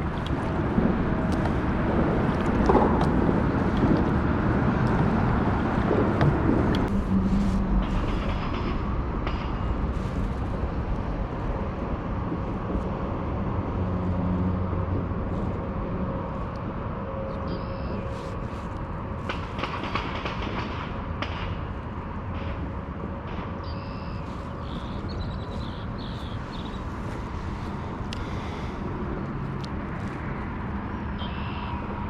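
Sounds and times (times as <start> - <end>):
wind buffeting microphone: 0.0 - 31.2.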